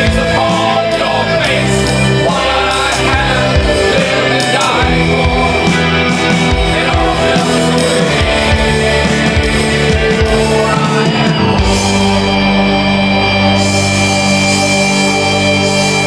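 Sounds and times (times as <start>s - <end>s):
man singing rock song: 0.0s - 13.7s.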